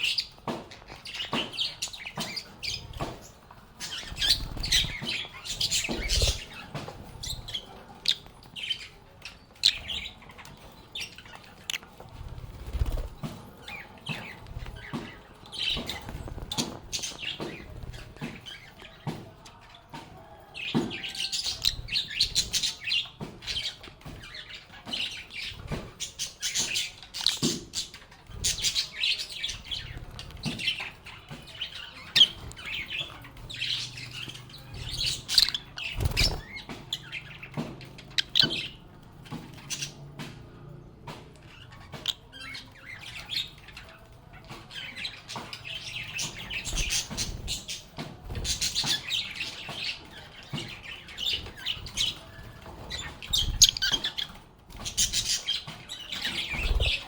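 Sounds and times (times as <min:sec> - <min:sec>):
birds chirping and chattering: 0:00.0 - 0:57.0.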